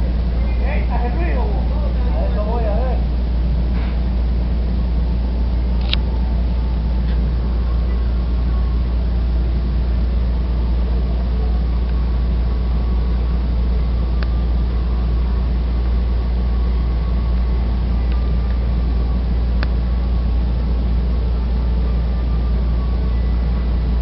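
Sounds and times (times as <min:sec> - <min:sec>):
large engine deep drone: 0:00.0 - 0:24.0.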